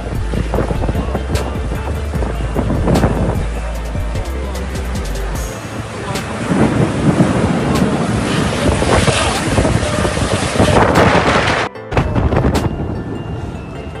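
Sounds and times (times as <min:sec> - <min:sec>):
driving rain: 0:00.0 - 0:12.6
wind buffeting microphone: 0:00.0 - 0:14.0.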